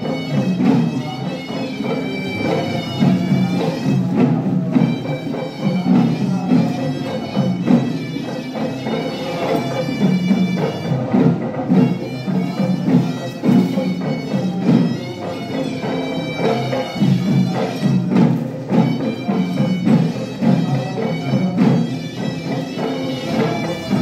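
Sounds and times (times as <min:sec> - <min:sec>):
drum beats: 0:00.0 - 0:24.0
reedy bagpipe-like melody: 0:00.0 - 0:24.0.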